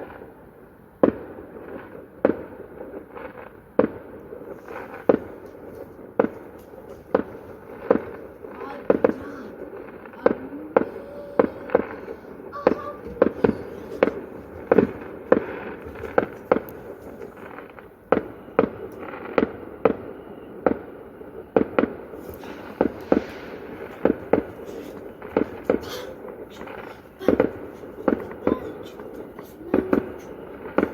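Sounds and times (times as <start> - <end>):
fireworks banging: 3.8 - 30.9.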